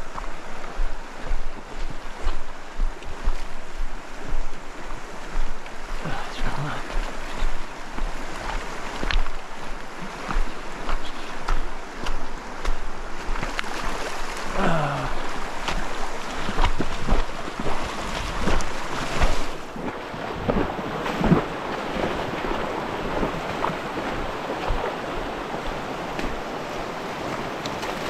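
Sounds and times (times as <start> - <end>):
creek water rushing over rocks: 0.0 - 28.0
splashes of wading: 0.0 - 28.0
wind buffeting microphone: 0.0 - 28.0.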